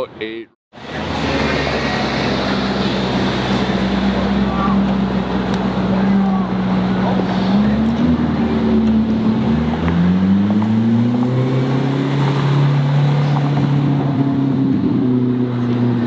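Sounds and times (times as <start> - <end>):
road and wind noise: 0.0 - 16.0
car engine revving: 0.8 - 16.0.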